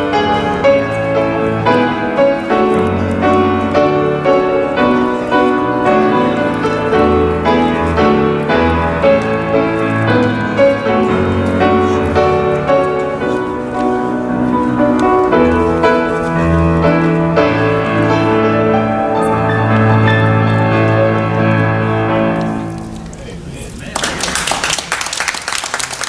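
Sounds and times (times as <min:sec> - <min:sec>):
slow chordal piano music: 0:00.0 - 0:23.6.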